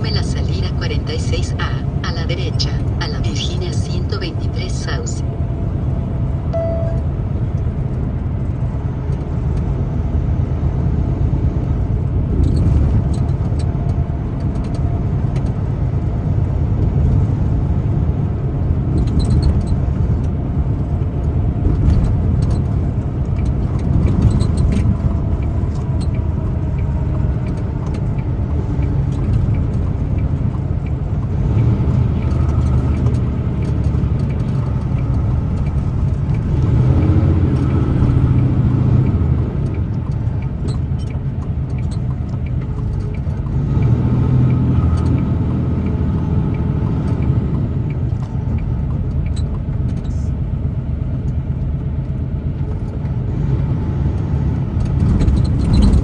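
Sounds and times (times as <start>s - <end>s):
truck engine and tyres rumbling: 0.0s - 56.0s.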